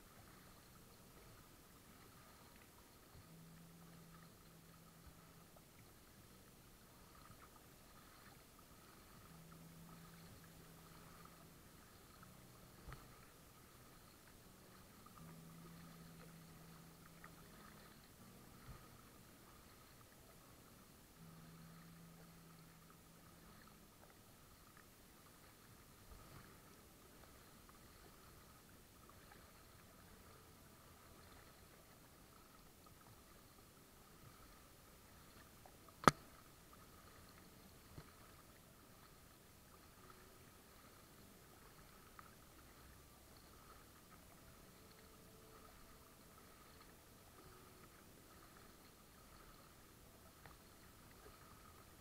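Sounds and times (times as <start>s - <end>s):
low hum: 0.0s - 52.0s
water against hull: 0.0s - 52.0s.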